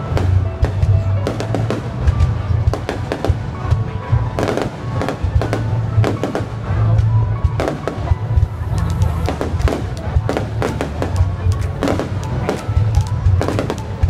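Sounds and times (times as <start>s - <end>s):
aerial fireworks bursting: 0.0s - 14.0s
continuous low rumble: 0.0s - 14.0s.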